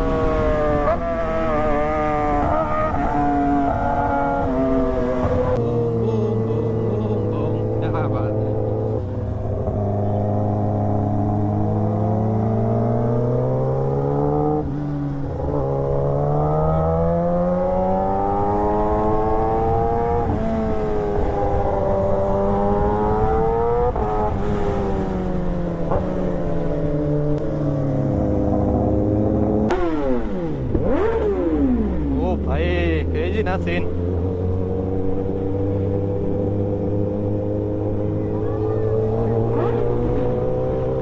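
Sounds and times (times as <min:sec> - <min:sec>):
vehicle engine accelerating: 0:00.0 - 0:41.0.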